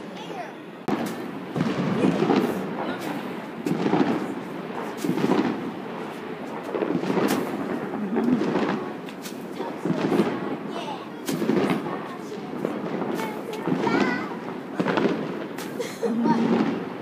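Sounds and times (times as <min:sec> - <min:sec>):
fireworks booming: 0:00.0 - 0:17.0
fireworks pops and cracks: 0:00.8 - 0:17.0.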